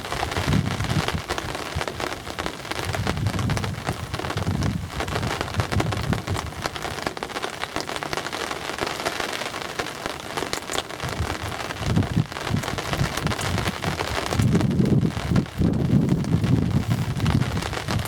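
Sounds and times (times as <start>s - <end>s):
wind rumble on microphone: 0.0s - 7.2s, 10.5s - 18.0s
rain pattering: 0.0s - 18.0s.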